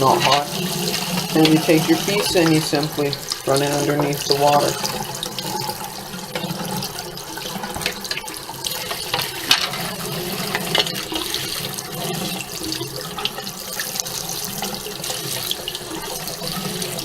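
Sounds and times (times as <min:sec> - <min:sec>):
tap water splashing over plastic: 0:00.0 - 0:17.0.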